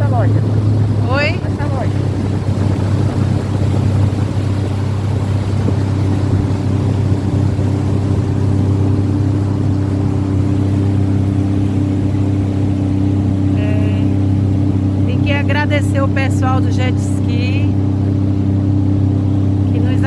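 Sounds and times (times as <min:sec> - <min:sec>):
jet ski engine humming: 0:00.0 - 0:20.0.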